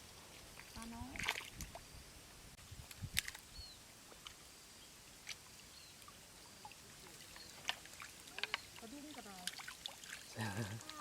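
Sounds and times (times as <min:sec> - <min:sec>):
water splashes and drips: 0:00.2 - 0:01.9, 0:02.9 - 0:11.0.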